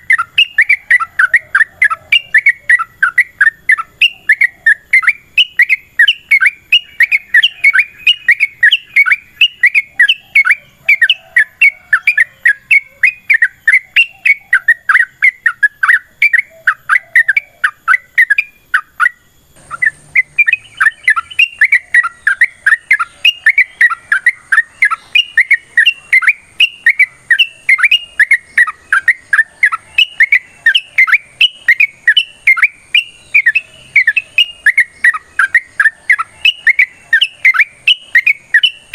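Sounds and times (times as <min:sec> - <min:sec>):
bird singing bubbling chirps: 0:00.0 - 0:38.9.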